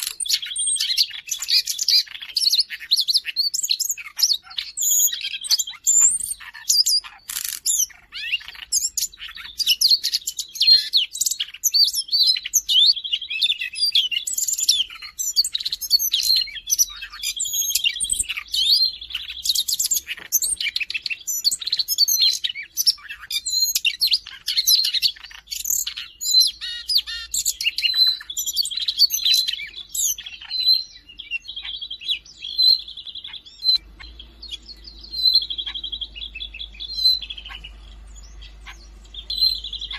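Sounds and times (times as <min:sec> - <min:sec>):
bird warbling song: 0:00.0 - 0:39.9
buzzy bird trills: 0:00.0 - 0:39.9.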